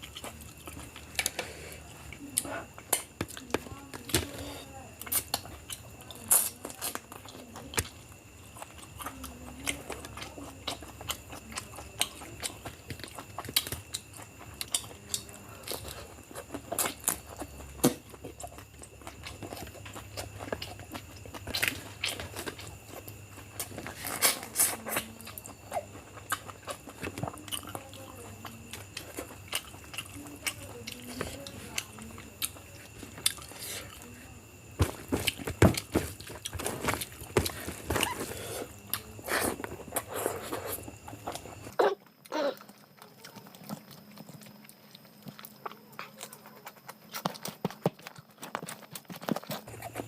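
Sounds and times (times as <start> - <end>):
chewing and mouth sounds: 0.0 - 50.0.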